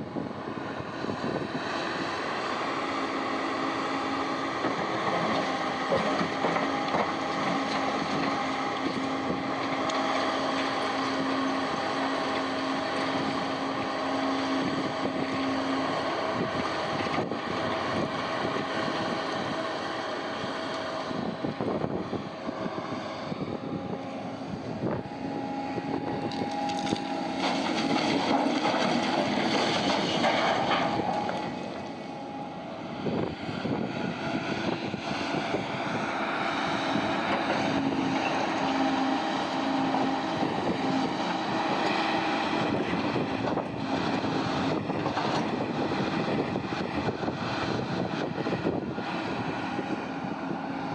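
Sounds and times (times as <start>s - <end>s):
diesel machinery engine drone: 0.0s - 50.9s.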